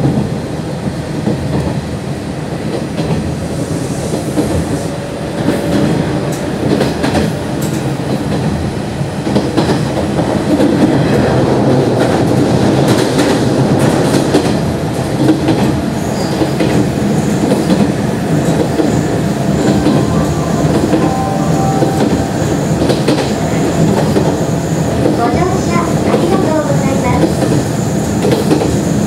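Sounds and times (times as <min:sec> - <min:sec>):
train wheels rumbling on rails: 0:00.0 - 0:29.0
rail joint clicks: 0:01.2 - 0:01.8, 0:04.1 - 0:29.0.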